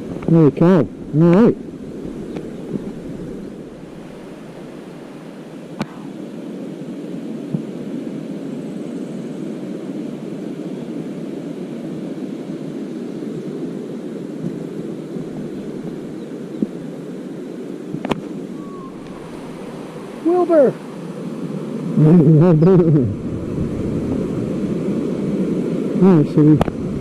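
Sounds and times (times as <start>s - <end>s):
stream of flowing water: 0.0s - 27.0s.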